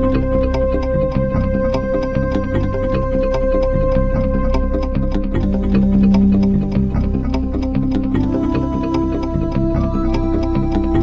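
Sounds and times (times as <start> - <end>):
moving bass line: 0.0 - 11.0.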